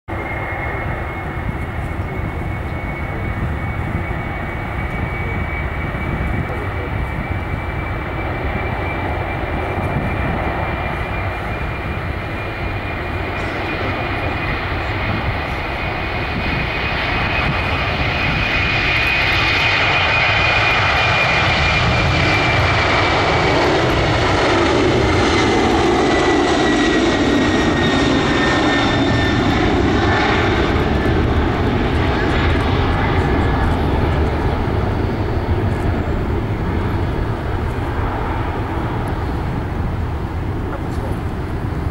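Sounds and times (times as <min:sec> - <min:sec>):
jet engines roaring with whine: 0:00.1 - 0:41.9.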